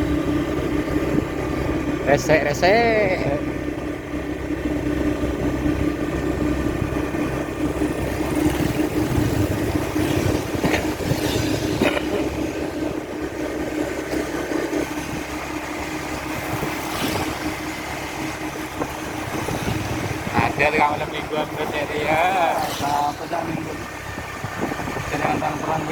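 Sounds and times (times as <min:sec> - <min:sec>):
vehicle engine hum: 0:00.0 - 0:25.9.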